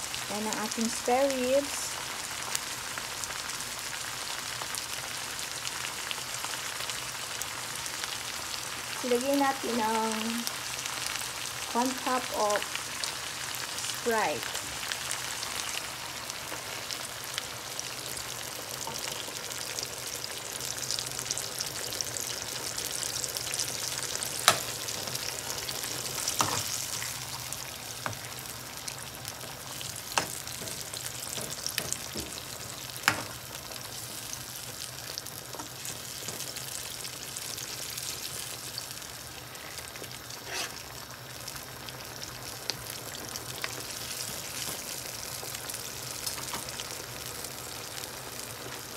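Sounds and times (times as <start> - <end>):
ribs sizzling in a pan: 0.0 - 48.9.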